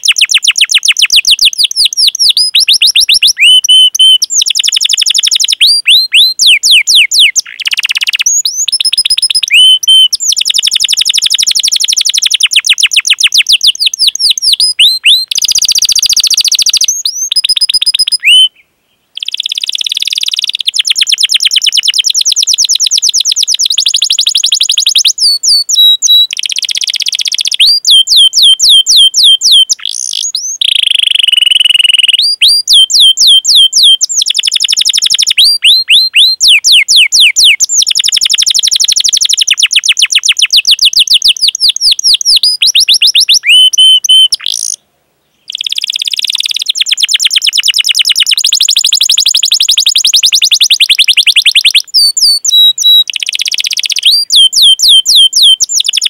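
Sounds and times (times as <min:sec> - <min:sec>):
canary singing: 0:00.0 - 0:18.6, 0:19.2 - 0:44.8, 0:45.4 - 0:56.0.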